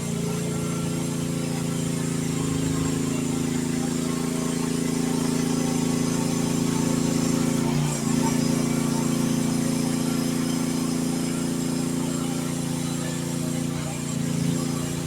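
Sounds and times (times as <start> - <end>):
mini excavator engine running: 0.0 - 15.0.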